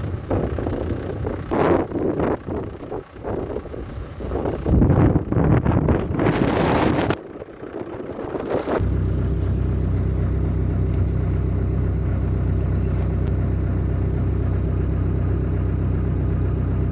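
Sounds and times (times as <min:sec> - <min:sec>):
engine running: 0:00.0 - 0:16.9.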